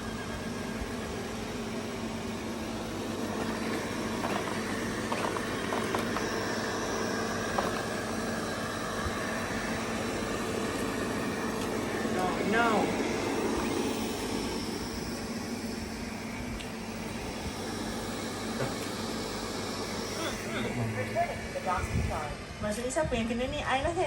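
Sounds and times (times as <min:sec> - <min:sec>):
robot vacuum motor hum: 0:00.0 - 0:22.8.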